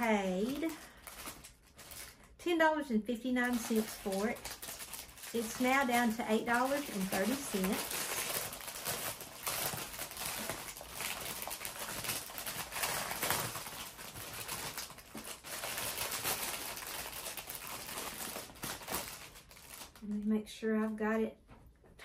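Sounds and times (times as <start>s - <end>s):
packaging crinkling: 0.0s - 2.4s, 3.2s - 20.1s.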